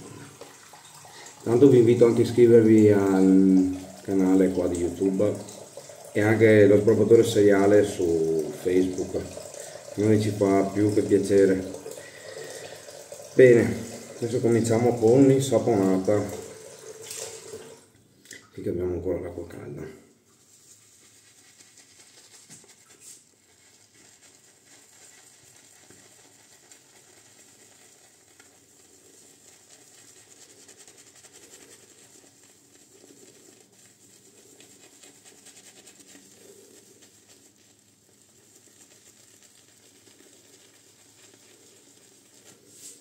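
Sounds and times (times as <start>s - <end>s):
shaving brush scrubbing soap: 0.0s - 17.8s, 20.3s - 43.0s.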